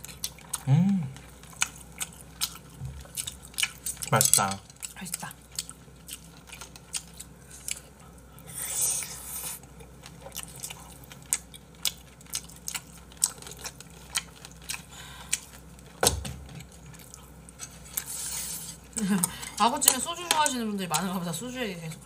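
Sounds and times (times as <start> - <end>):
chewing with mouth clicks: 0.0 - 16.0, 16.6 - 20.0.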